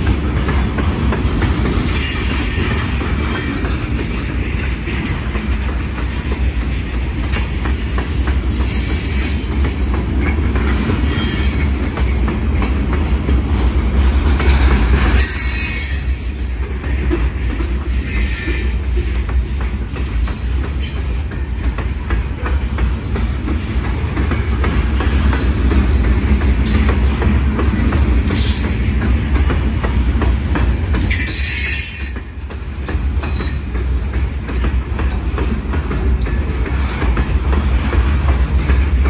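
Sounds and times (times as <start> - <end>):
train wheel squeals: 0.0 - 29.2, 31.0 - 39.0
train wheels rumbling on rail: 0.0 - 39.0
wheels clicking over rail joints: 0.0 - 39.0.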